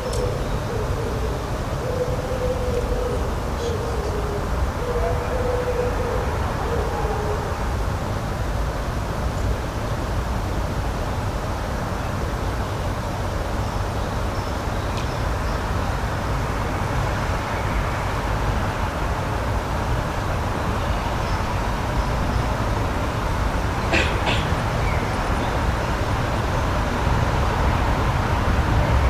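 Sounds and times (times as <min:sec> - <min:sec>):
low outdoor rushing noise: 0:00.0 - 0:29.0.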